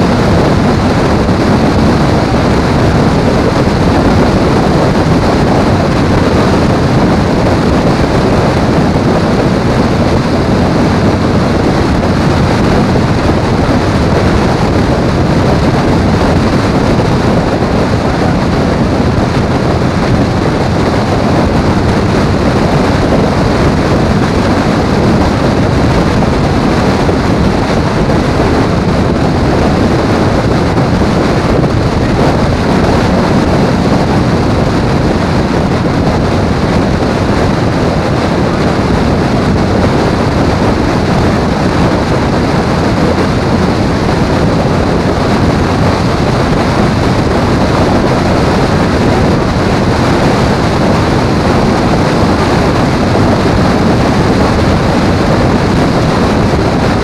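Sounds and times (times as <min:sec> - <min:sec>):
road noise: 0:00.0 - 0:57.0
wind rush on microphone: 0:00.0 - 0:57.0.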